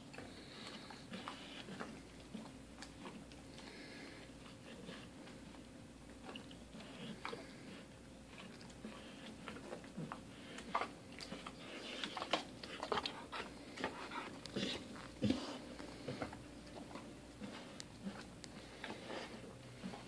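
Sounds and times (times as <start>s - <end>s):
dog chewing: 0.0s - 20.0s.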